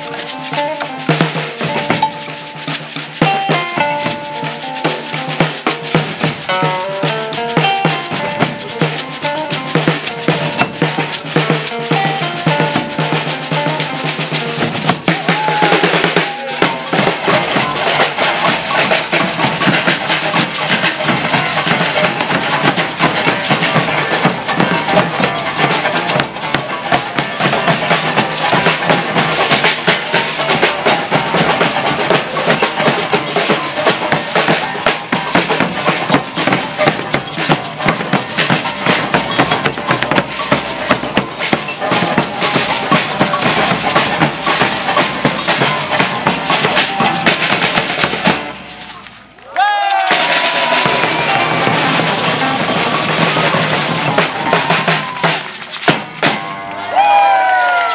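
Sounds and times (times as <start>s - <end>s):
beaded gourd shakers rattling: 0.0s - 57.9s
snare drums: 0.0s - 57.9s.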